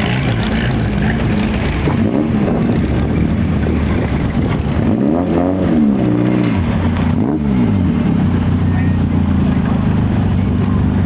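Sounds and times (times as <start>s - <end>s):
engine revving: 0.0s - 10.8s
hot rod engines running: 0.0s - 11.0s.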